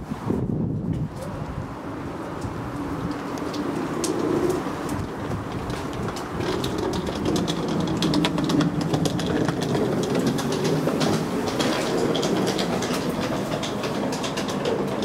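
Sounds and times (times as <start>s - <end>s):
train rumbling with clattering clicks: 2.4s - 15.0s.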